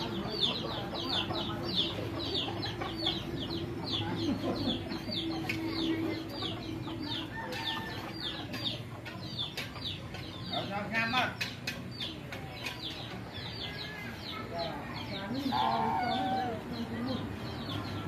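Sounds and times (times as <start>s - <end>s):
hens clucking and murmuring: 0.0s - 18.0s.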